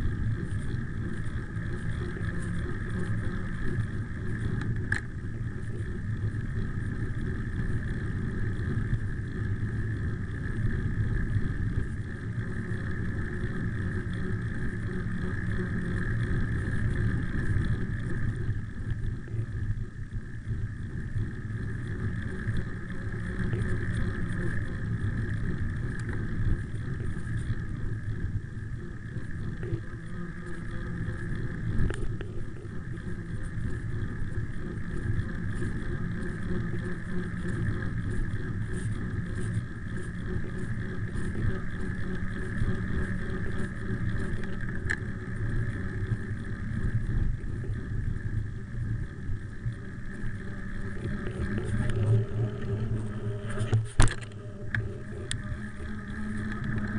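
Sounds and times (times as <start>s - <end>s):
bicycle tyres rolling on road: 0.0s - 56.9s.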